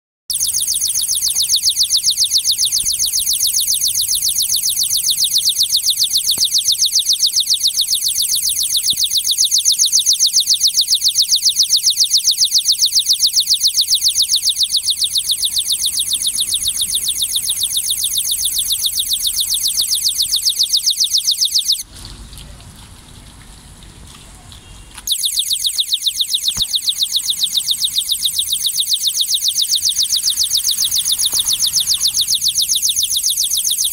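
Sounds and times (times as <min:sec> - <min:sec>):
high-pitched electronic chirps: 0:00.3 - 0:21.8, 0:25.1 - 0:33.9.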